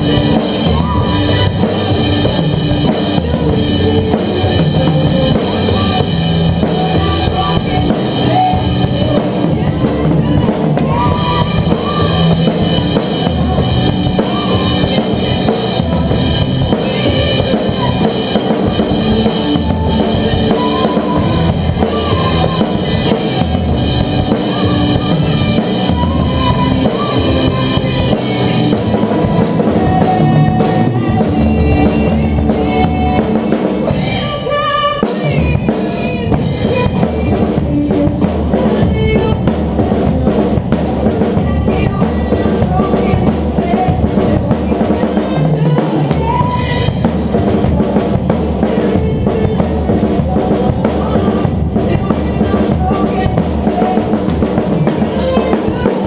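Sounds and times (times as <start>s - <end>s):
drum kit played hard: 0.0s - 56.0s
recorded backing track: 0.0s - 56.0s.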